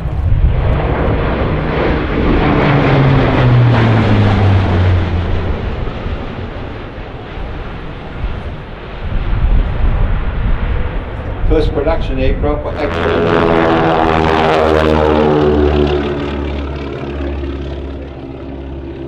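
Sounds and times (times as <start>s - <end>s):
low aircraft engine drone: 0.0s - 19.0s.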